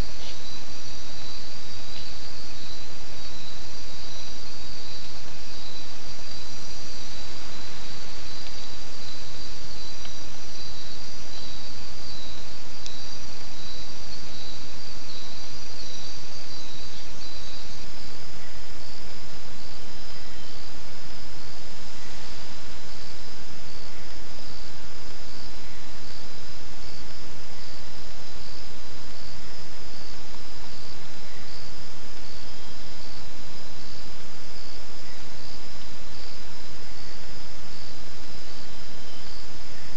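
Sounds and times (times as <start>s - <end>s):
insects trilling: 0.0s - 39.9s
microphone hiss: 0.0s - 39.9s.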